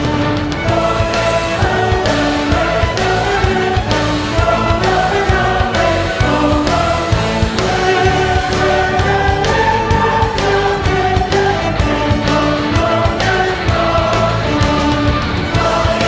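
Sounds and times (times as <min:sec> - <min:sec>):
steady music beat: 0:00.0 - 0:16.0
voices singing long notes: 0:00.0 - 0:16.0.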